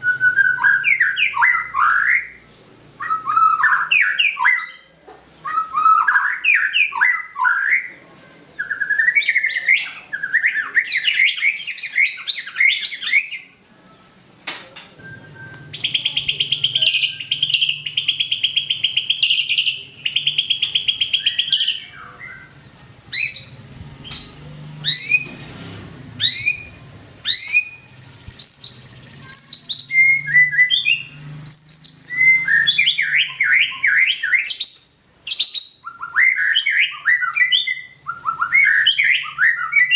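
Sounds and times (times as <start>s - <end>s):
songbird whistling and trilling: 0.0s - 13.6s, 15.0s - 25.4s, 26.2s - 39.9s.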